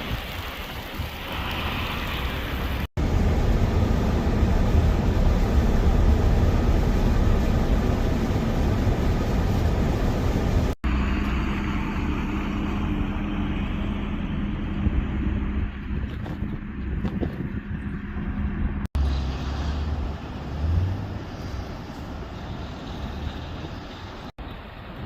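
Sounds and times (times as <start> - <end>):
vehicle road rumble: 0.0 - 25.0
wind: 0.0 - 25.0.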